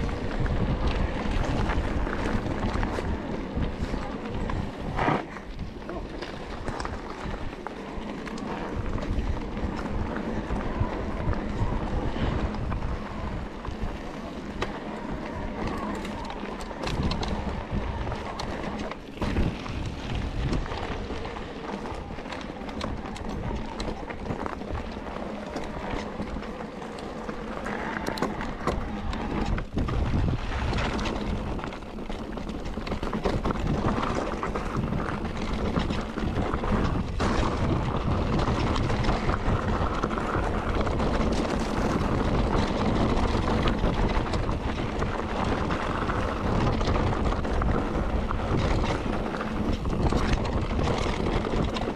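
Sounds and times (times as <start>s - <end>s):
bike knocks and rattles: 0.0s - 51.9s
bike tyres rolling over rough ground: 0.0s - 51.9s
wind buffeting microphone: 0.0s - 51.9s.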